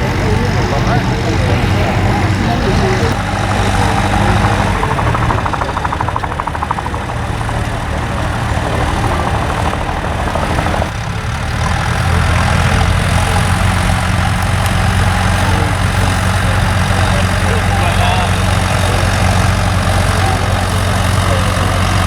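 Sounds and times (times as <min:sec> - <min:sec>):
fast rhythmic clatter: 0:00.0 - 0:22.0
tractor engine running: 0:00.0 - 0:22.0.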